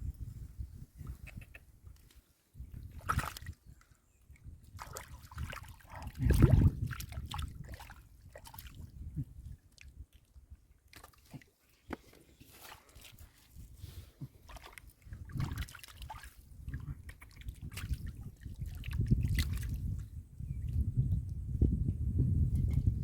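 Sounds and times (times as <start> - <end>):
splashing in muddy water: 1.3 - 20.0.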